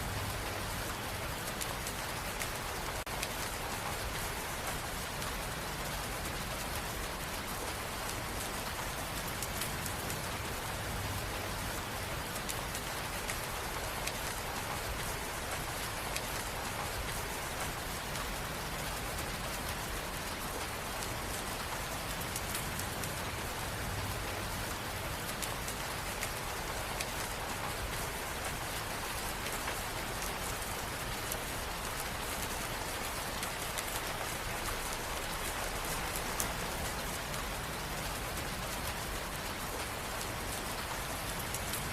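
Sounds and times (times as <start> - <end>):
rain on a hard surface: 0.0 - 41.9.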